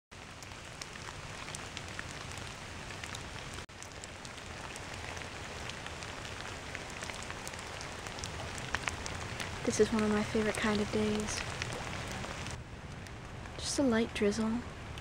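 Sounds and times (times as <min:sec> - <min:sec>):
drizzle falling on leaves: 0:00.1 - 0:15.0.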